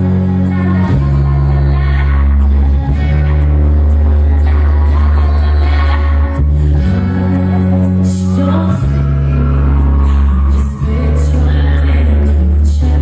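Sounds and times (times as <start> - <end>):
female vocal group singing: 0.0 - 13.0
heavy sustained bass line: 0.0 - 13.0.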